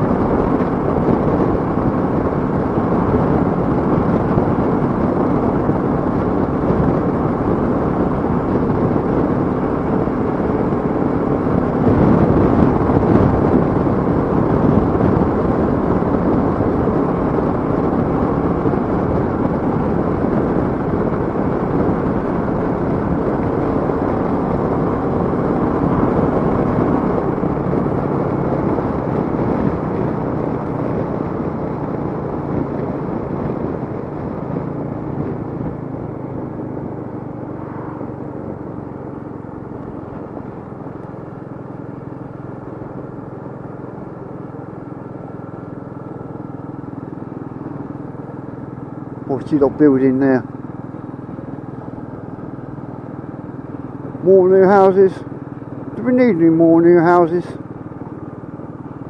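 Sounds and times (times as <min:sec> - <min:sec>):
motorcycle engine running: 0:00.0 - 0:59.0
wind and road rush: 0:00.0 - 0:59.0.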